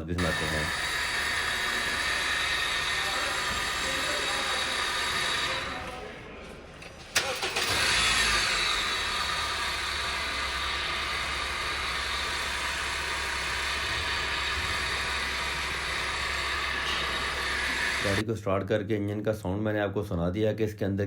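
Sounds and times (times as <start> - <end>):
high-pitched bearing whine: 0.0 - 6.2, 7.6 - 18.2
car engine idling: 0.0 - 18.2.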